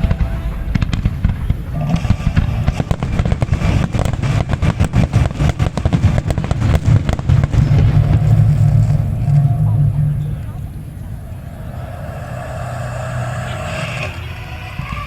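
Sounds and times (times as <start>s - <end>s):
fireworks bangs and crackles: 0.0s - 15.0s
heavy low rumble: 0.0s - 15.0s.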